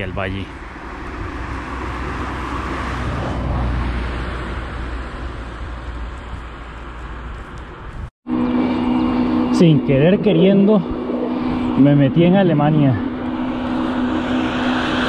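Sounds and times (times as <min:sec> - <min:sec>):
wind rushing over microphone: 0:00.0 - 0:06.6, 0:07.5 - 0:15.0.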